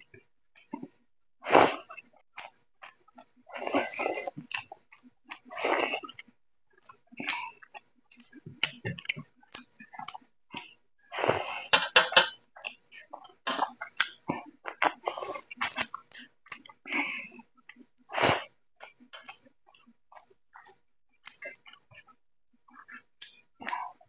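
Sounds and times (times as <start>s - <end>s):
wet chewing and lip smacking: 1.8s - 10.8s, 12.5s - 18.1s, 18.8s - 24.0s.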